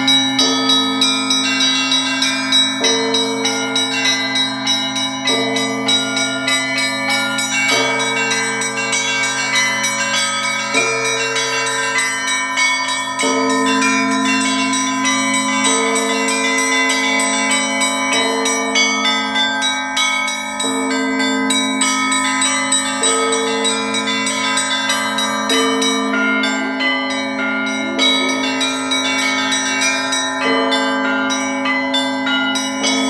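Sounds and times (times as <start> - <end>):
bells ringing in a peal: 0.0 - 33.0.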